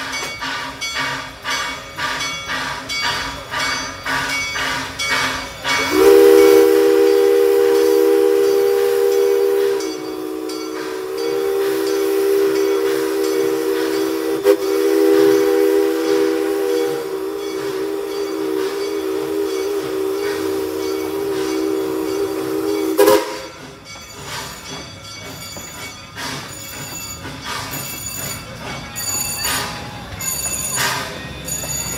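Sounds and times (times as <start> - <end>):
train running: 0.0 - 31.9
steam locomotive whistle: 0.4 - 23.7, 29.0 - 31.9.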